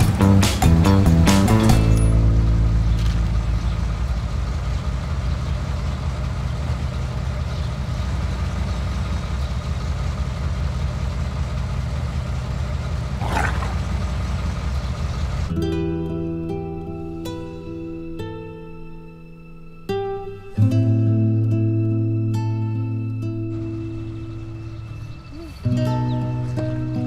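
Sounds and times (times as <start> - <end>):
car engine idling: 0.0 - 20.6, 21.6 - 27.0.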